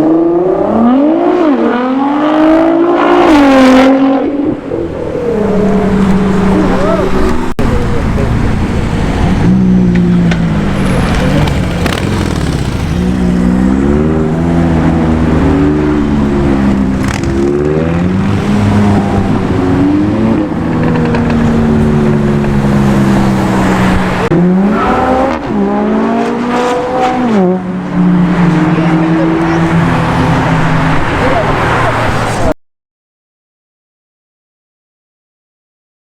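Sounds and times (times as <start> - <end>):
car engine accelerating hard: 0.0 - 32.5.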